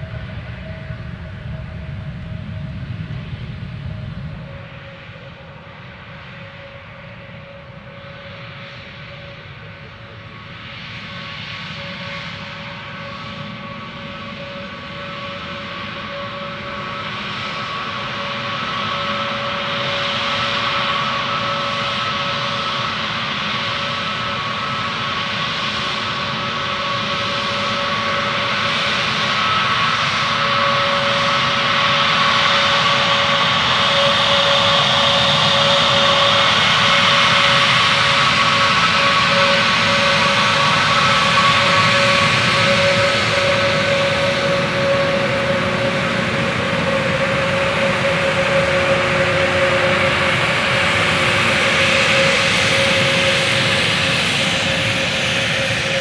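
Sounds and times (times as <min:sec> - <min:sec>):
jet engines whining while taxiing: 0:00.0 - 0:56.0.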